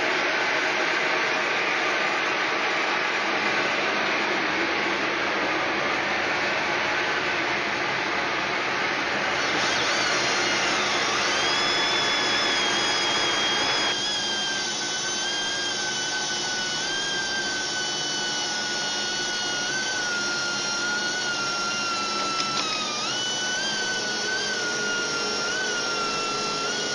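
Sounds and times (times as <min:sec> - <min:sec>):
lathe high whine: 0:00.0 - 0:26.9.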